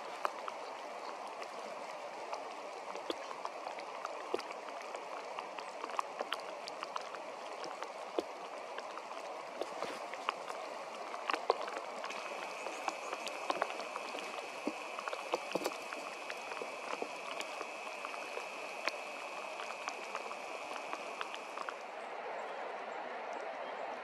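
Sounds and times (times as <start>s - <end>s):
raindrops ticking: 0.0s - 21.8s
light rain hiss: 0.0s - 21.9s.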